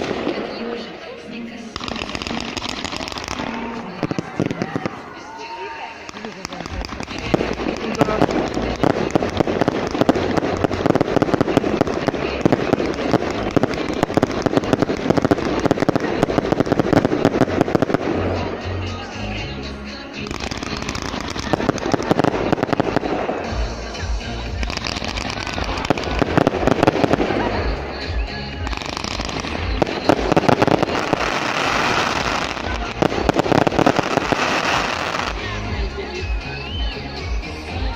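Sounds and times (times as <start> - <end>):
fireworks bangs and crackling pops: 0.0 - 37.9.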